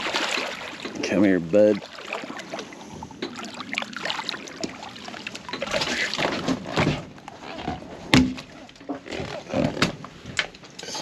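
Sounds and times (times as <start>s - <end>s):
fish splashing: 0.0s - 9.6s
water pouring and dripping: 0.0s - 9.8s.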